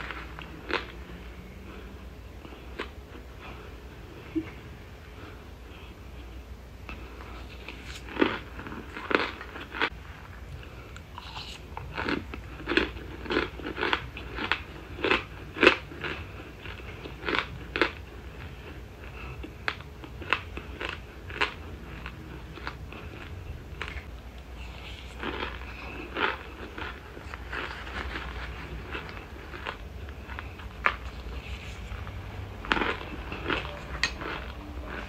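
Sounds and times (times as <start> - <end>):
mouth chewing crisp crunches: 0.0 - 3.6, 6.9 - 35.0.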